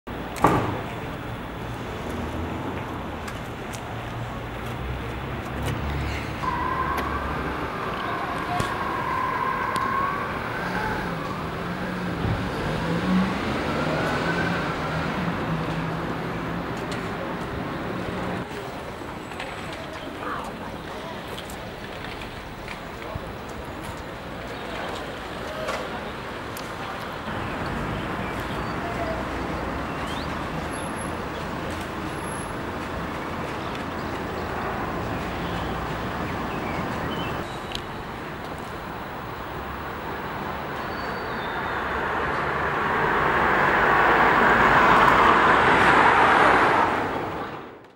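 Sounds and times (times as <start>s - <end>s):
road traffic noise: 0.0s - 47.9s.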